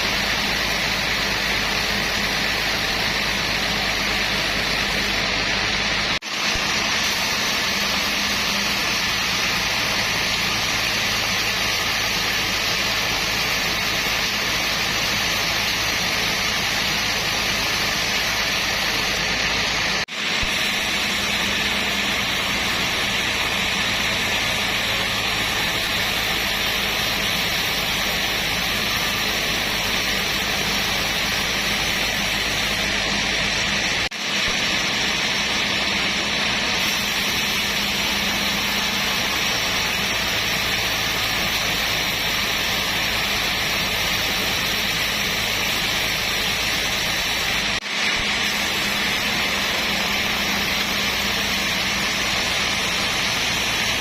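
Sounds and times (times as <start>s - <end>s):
loud even hiss: 0.0s - 54.0s.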